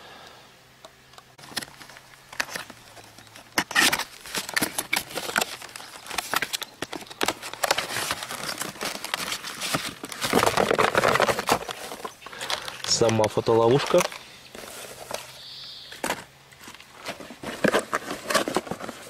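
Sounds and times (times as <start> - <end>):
cardboard box scraping and crinkling: 1.5 - 19.0.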